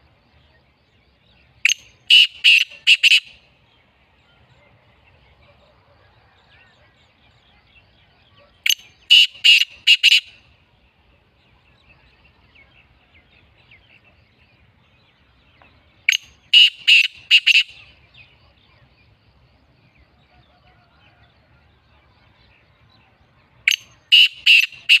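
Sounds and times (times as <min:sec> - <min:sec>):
francolin calling: 0:00.4 - 0:04.7, 0:06.6 - 0:21.5, 0:22.5 - 0:25.0.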